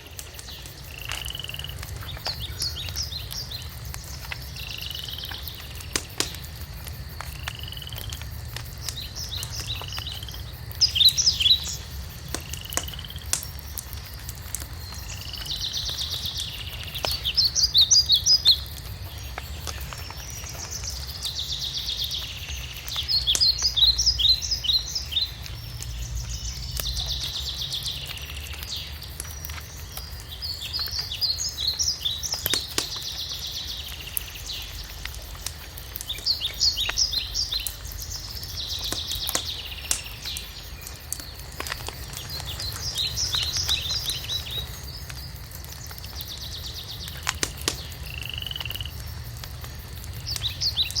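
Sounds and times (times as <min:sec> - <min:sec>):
songbird singing: 0:00.0 - 0:13.6, 0:14.2 - 0:51.0
wood fire crackling and popping: 0:00.0 - 0:51.0.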